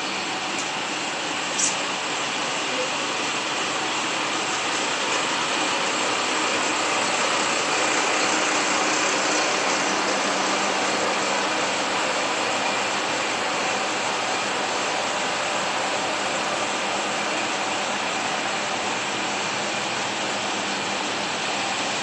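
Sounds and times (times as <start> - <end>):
blower hiss: 0.0 - 22.0
railcar engine hum: 0.0 - 22.0.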